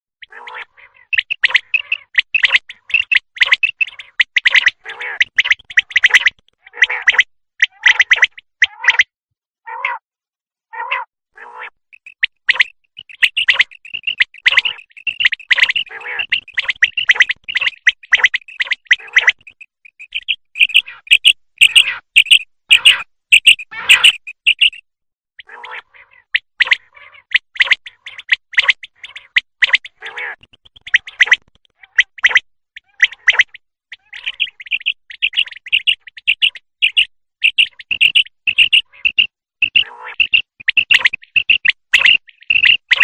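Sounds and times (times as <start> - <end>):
quail calling: 0.2 - 9.1, 9.7 - 10.0, 10.7 - 24.8, 25.4 - 43.0.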